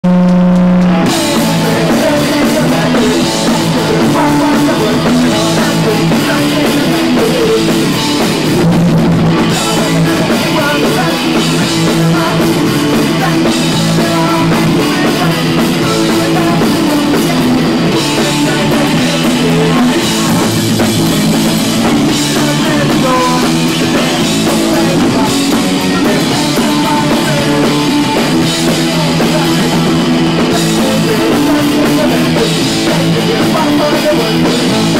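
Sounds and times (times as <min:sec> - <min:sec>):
drum kit: 0:00.0 - 0:34.9
electric guitars: 0:00.1 - 0:34.9
man singing: 0:00.6 - 0:34.9.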